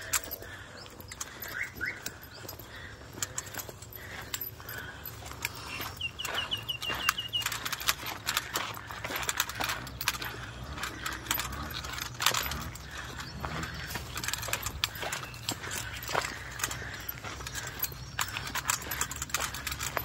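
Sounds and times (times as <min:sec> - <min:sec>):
clicking and rattling: 0:00.0 - 0:20.0.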